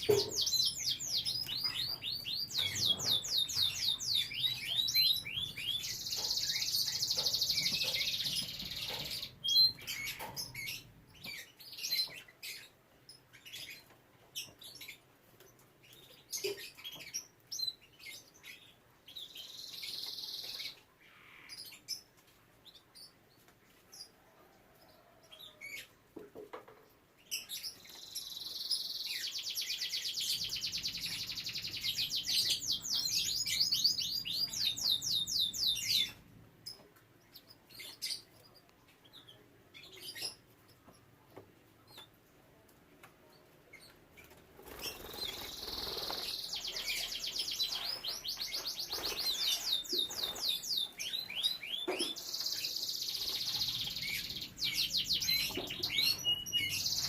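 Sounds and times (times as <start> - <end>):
canary singing trills: 0.0 - 22.1, 27.2 - 41.1, 43.3 - 57.0
canary chirps: 0.0 - 25.9, 26.8 - 42.3, 43.2 - 57.0.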